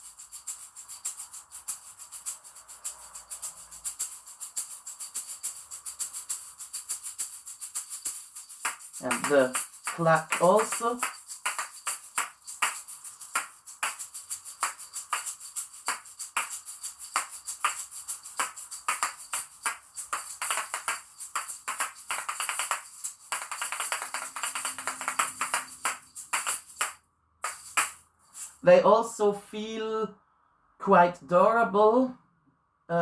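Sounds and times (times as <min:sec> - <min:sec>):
shaker balls rattling and clacking: 0:00.0 - 0:28.6.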